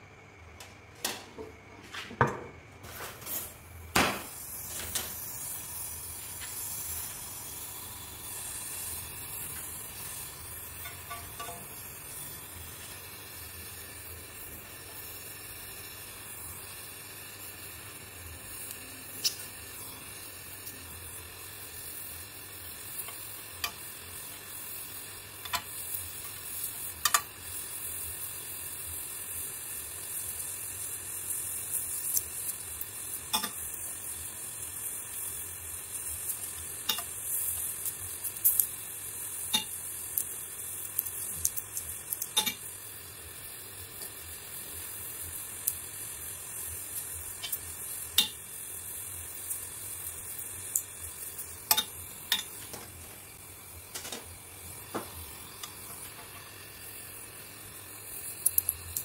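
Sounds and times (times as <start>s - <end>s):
gas torch flame hissing: 0.0s - 59.0s.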